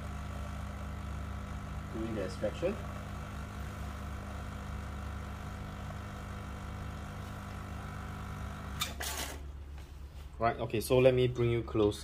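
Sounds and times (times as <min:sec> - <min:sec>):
espresso machine pump humming: 0:00.0 - 0:10.4.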